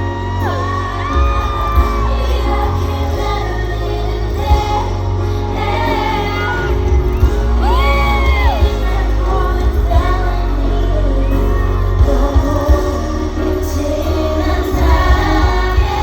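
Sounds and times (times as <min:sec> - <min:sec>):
heavy bass: 0:00.0 - 0:16.0
pop song over sound system: 0:00.0 - 0:16.0
woman singing: 0:00.0 - 0:16.0.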